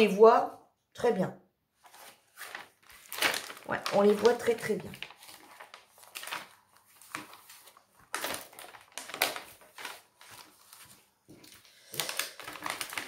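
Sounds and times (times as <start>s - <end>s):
plastic film rustling and crinkling: 1.8s - 13.0s.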